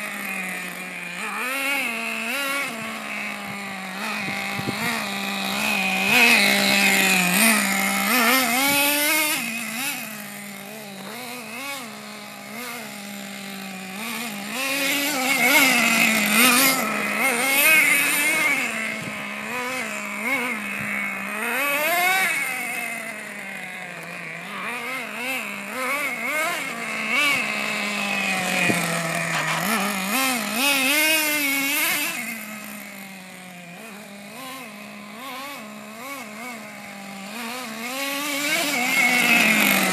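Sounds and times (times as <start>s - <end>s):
nitro engine revving: 0.0s - 39.9s.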